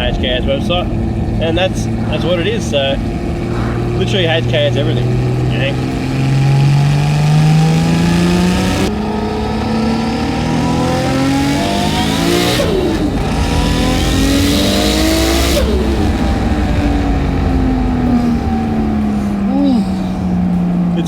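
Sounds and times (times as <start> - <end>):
car engine accelerating: 0.0 - 21.0
turbo whistling: 0.0 - 21.0.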